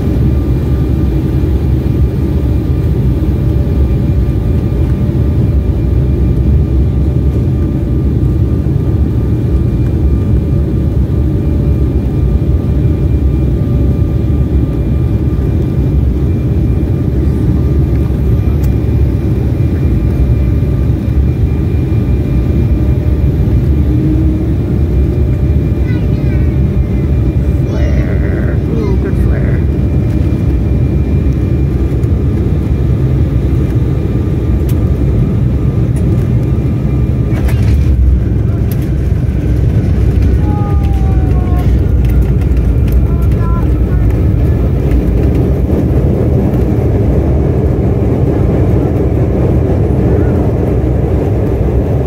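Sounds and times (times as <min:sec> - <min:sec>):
jet cabin rumble: 0:00.0 - 0:52.0.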